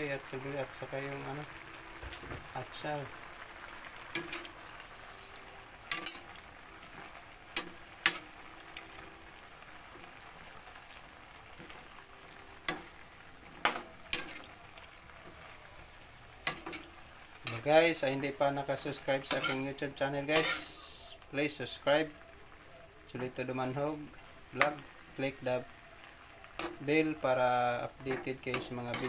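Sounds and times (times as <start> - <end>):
vegetables hissing in liquid: 0.0 - 29.0.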